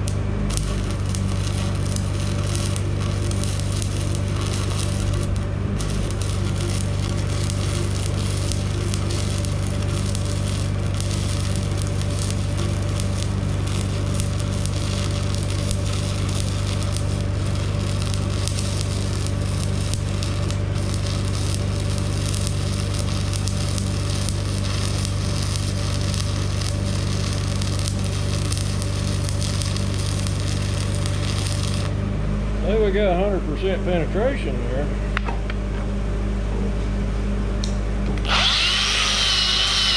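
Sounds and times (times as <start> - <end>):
welding arc crackling: 0.0 - 32.0, 38.2 - 39.9
welder low hum: 0.0 - 35.2, 36.3 - 39.9.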